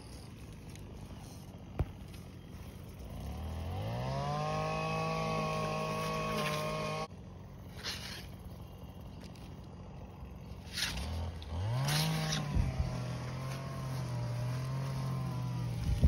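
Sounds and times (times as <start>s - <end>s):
small engine revving: 0.0s - 7.1s, 7.7s - 16.0s.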